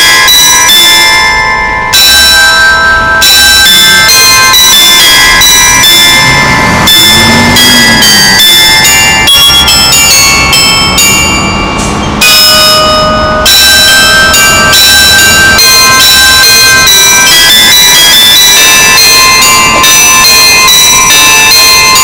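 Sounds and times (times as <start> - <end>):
carillon bells playing a tune: 0.0 - 22.0.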